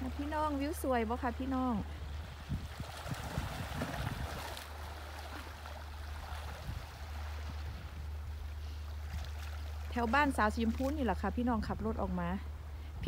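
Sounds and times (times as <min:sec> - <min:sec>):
small waves lapping on rocks: 0:00.0 - 0:12.3
steady low rumble: 0:00.0 - 0:13.0.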